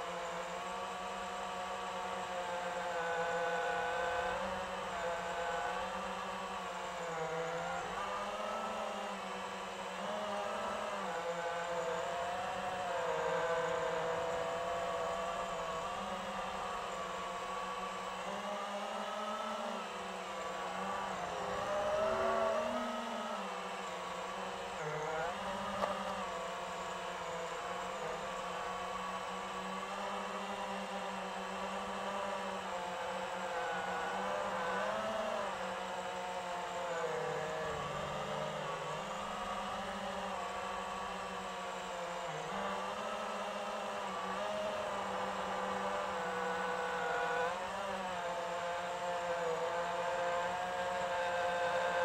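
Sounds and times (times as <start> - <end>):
drone motors whining: 0.1 - 52.0.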